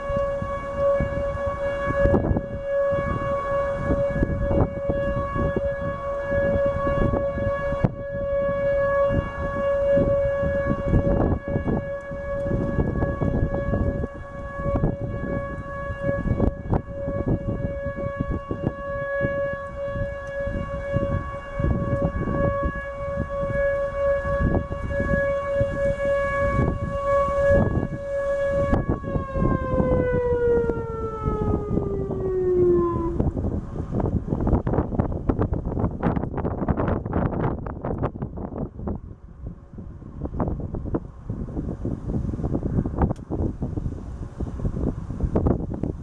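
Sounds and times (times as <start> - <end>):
warning siren steady tone: 0.0 - 46.0
wind rumbling on microphone: 0.0 - 46.0.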